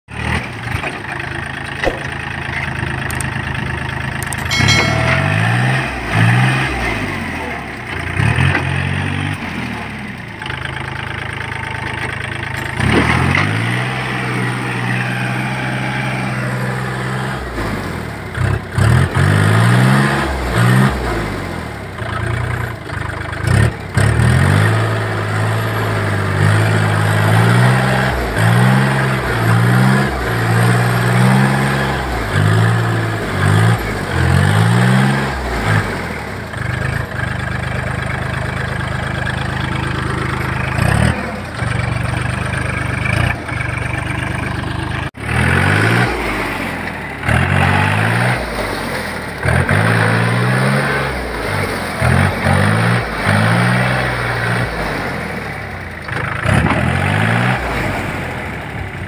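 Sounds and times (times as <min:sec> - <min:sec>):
tractor diesel engine surging: 0:00.1 - 0:59.0.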